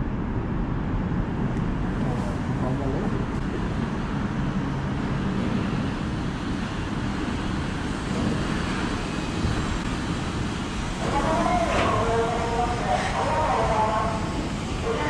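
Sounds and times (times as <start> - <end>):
monorail train rumbling: 0.0 - 15.0.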